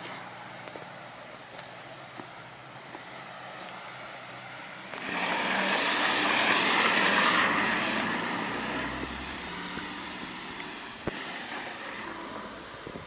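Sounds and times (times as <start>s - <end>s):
vehicle driving past: 2.3s - 13.0s.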